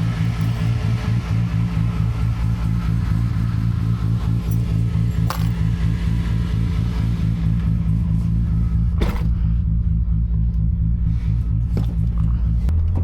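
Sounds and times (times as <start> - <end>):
car engine droning steadily: 0.0 - 13.0.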